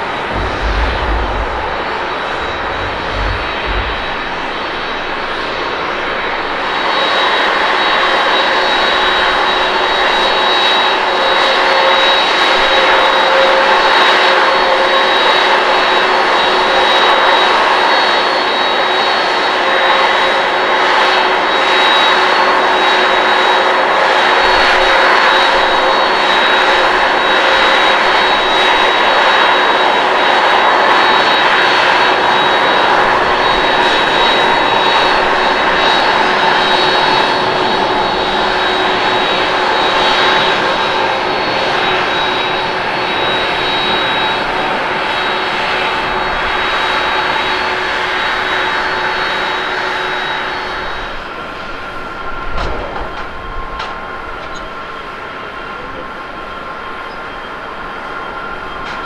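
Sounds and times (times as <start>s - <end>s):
distant airport jet noise: 0.0s - 59.0s
jet engine roar: 0.0s - 59.0s.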